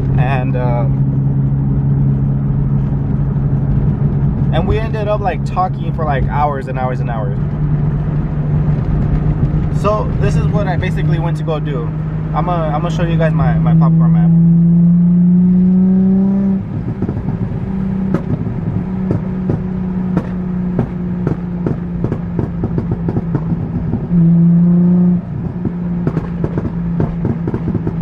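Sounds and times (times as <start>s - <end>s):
exhaust pops and crackles: 0.0s - 14.3s, 16.6s - 28.0s
car engine revving: 0.0s - 28.0s.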